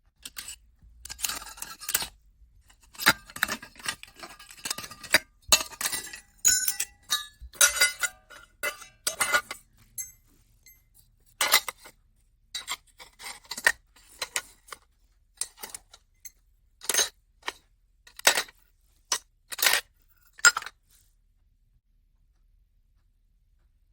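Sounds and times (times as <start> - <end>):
metal parts clinking and scraping: 0.2 - 12.0, 12.6 - 20.8.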